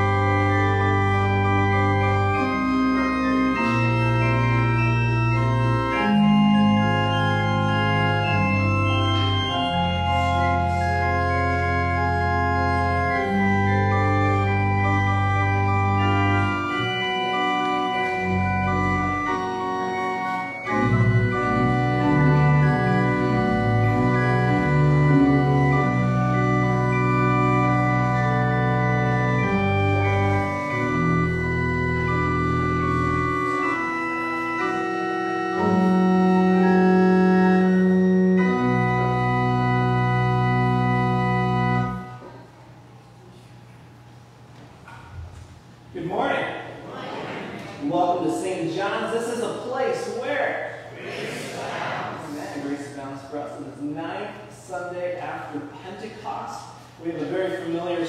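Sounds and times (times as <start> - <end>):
church organ chords: 0.0 - 46.8, 47.8 - 58.0.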